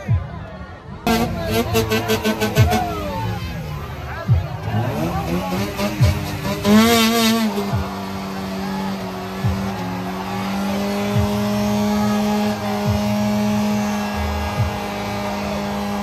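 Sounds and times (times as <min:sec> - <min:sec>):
car engine at high revs: 0:01.1 - 0:16.0.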